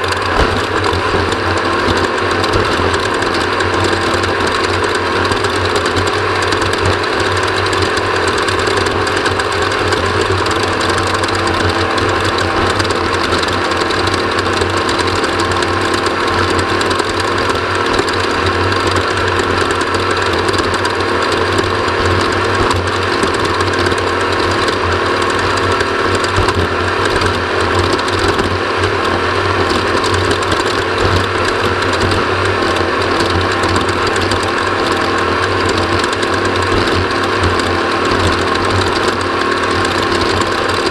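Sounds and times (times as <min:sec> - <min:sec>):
mechanical clatter and rattle: 0:00.0 - 0:40.9
race vehicle engine running: 0:00.0 - 0:40.9.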